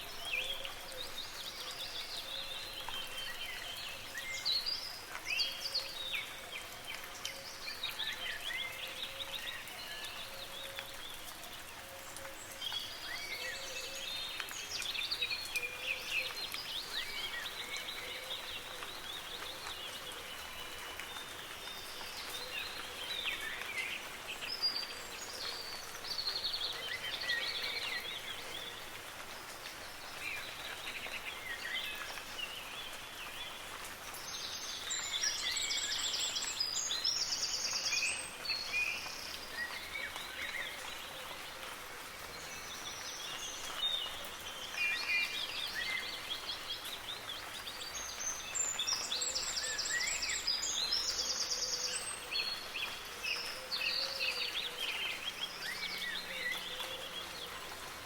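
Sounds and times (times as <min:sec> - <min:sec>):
soft rain hiss: 0:00.0 - 0:58.0
songbirds singing: 0:00.0 - 0:58.0.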